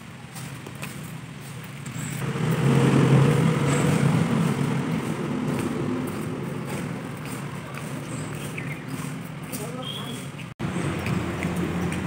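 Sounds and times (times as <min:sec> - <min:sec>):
vehicle engine passing by: 0:01.8 - 0:12.0.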